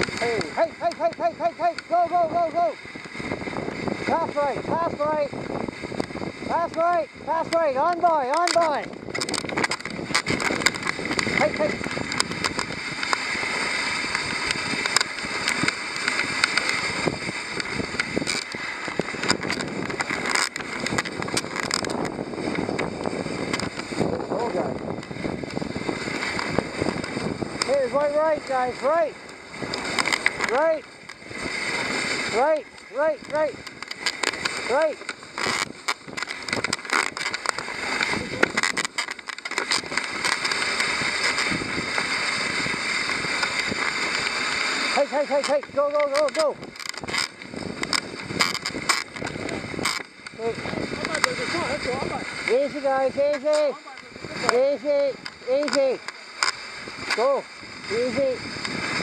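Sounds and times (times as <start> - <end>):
sled clicks and knocks: 0.0 - 59.0
sled runners hissing on snow: 9.4 - 59.0.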